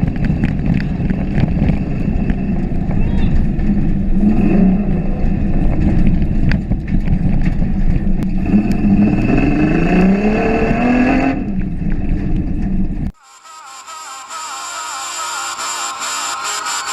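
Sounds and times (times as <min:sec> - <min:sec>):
truck engine accelerating: 0:00.0 - 0:16.9.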